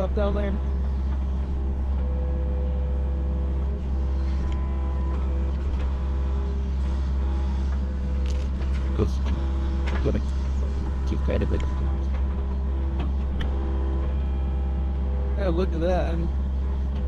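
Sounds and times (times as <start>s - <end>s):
excavator diesel engine running: 0.0s - 17.0s
hydraulic whine: 0.0s - 17.0s.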